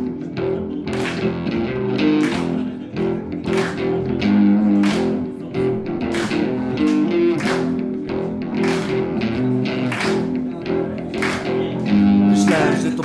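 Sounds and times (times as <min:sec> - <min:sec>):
guitar riff: 0:00.0 - 0:13.0.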